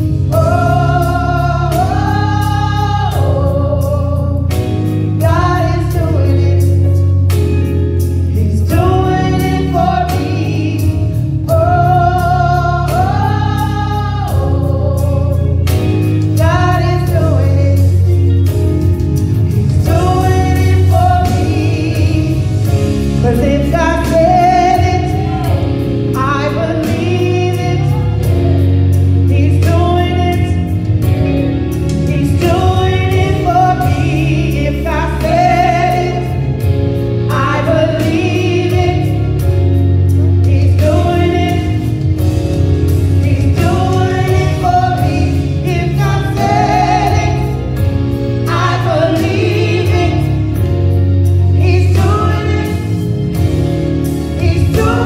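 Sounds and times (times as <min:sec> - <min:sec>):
deep steady bass: 0:00.0 - 0:55.0
instrumental accompaniment: 0:00.0 - 0:55.0
women singing gospel: 0:00.0 - 0:55.0.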